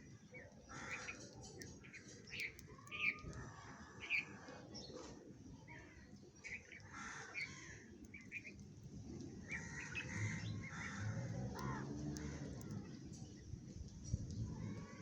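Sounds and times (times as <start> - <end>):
sparrows chirping: 0.0 - 13.6.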